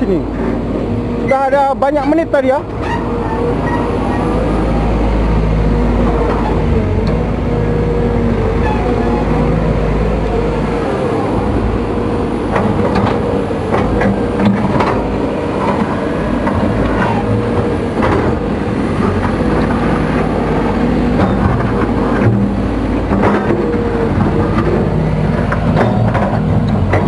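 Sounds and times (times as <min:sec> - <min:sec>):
excavator diesel engine and hydraulics: 0:00.0 - 0:27.0.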